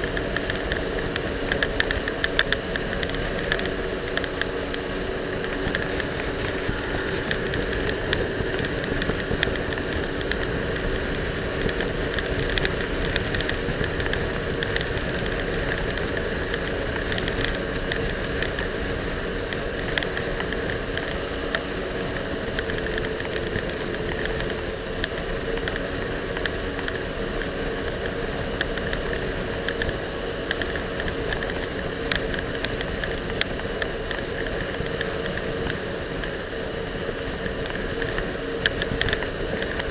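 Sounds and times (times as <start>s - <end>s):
jet ski engine running: 0.0s - 39.9s.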